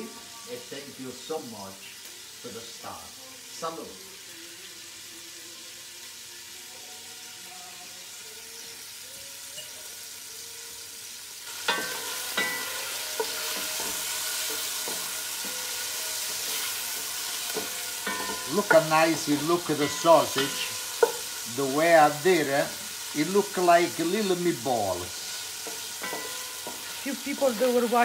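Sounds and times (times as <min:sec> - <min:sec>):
sausage sizzling in a pan: 0:00.0 - 0:28.0.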